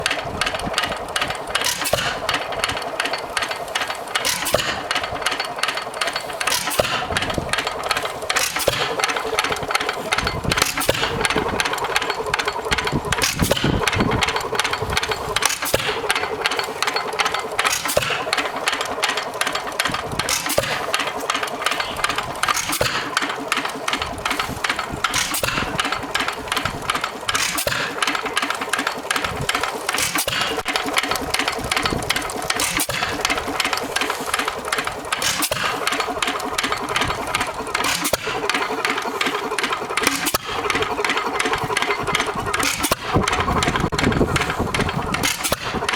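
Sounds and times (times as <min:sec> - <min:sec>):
stationary engine clattering with bangs: 0:00.0 - 0:45.9.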